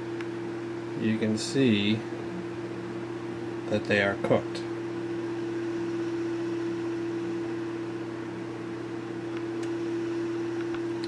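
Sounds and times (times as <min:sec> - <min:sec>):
electrical hum: 0:00.0 - 0:11.0
weaker lower hum: 0:00.0 - 0:11.0.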